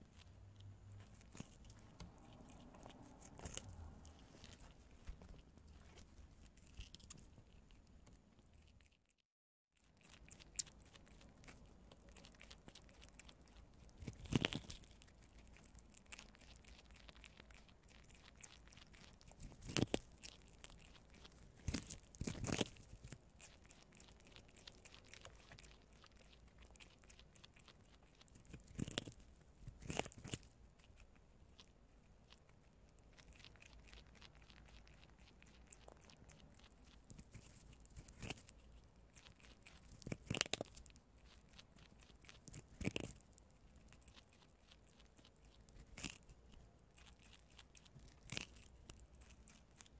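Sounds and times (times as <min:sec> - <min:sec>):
animals chewing corn kernels: 0:00.0 - 0:09.2, 0:09.8 - 0:49.9.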